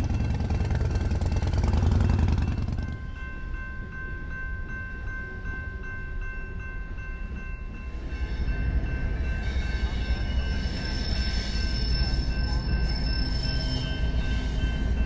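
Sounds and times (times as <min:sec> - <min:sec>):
crossing bell ringing: 0:00.0 - 0:15.0
train rolling past: 0:00.0 - 0:15.0.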